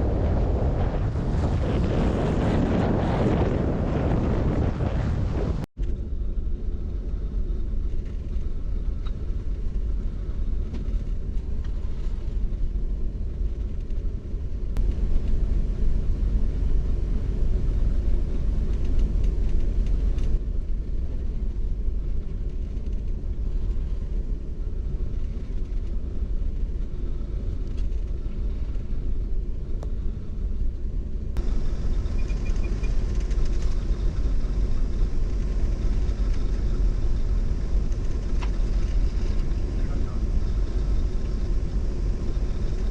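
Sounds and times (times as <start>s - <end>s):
ship machinery rumble: 0.0s - 42.9s.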